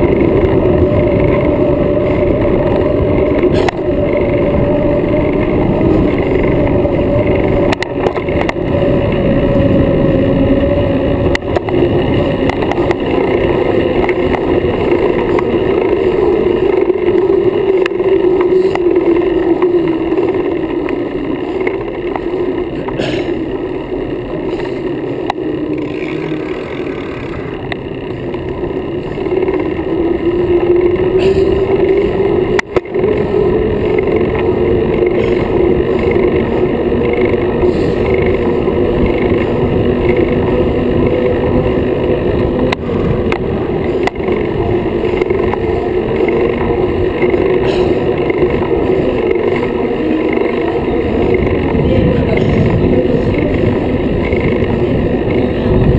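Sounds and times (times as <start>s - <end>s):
humming drone: 0.0s - 55.9s
tyres on pavement: 0.0s - 55.9s
wind on microphone: 0.0s - 55.9s.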